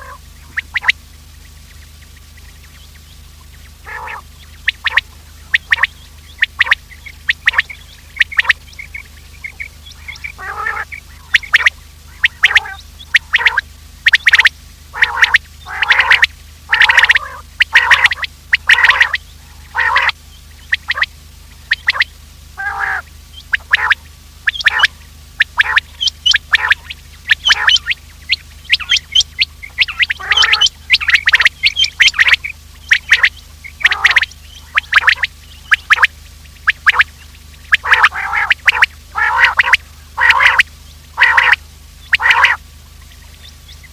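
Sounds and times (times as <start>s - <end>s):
low hum: 0.0s - 43.9s
quail calling: 0.0s - 43.9s.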